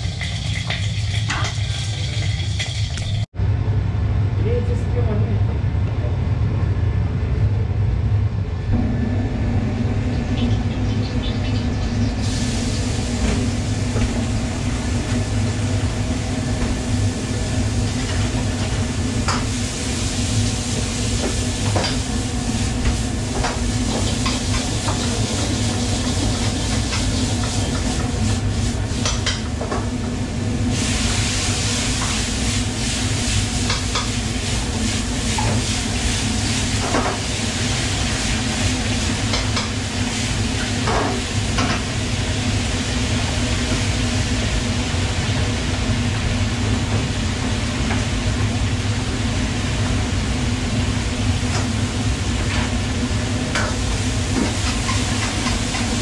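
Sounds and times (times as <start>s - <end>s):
food sizzling in a wok: 0.0s - 3.3s, 11.2s - 56.0s
gas burners and extractor rumble: 0.0s - 56.0s.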